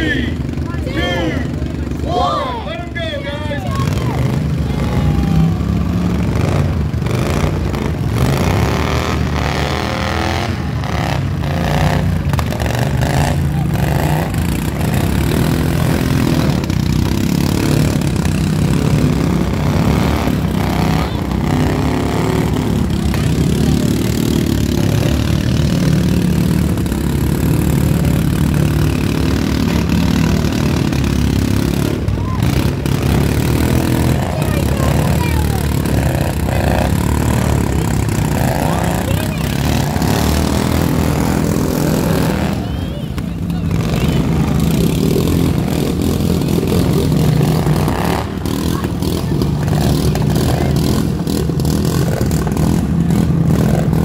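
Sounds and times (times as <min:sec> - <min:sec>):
lawn mower engines revving: 0:00.0 - 0:54.0.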